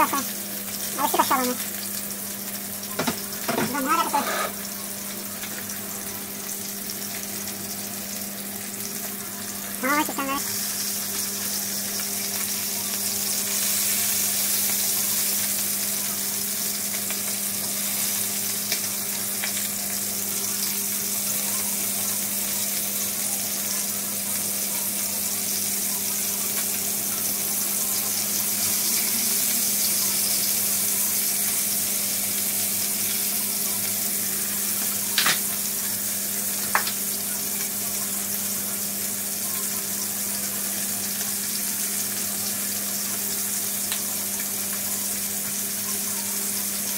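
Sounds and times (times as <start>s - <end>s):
fish sizzling in hot oil: 0.0s - 46.9s.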